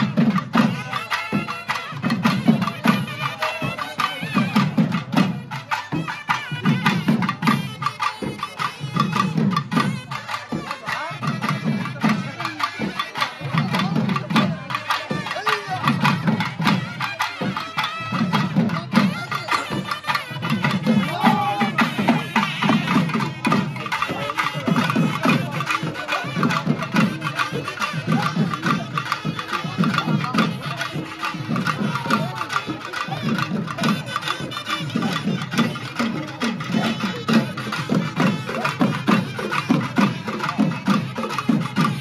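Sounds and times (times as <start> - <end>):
drum band playing: 0.0 - 42.0.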